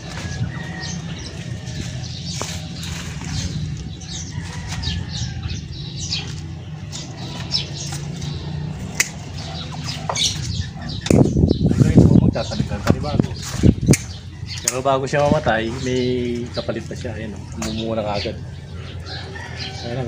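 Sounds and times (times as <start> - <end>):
dry vines rustling: 0.0 - 19.8.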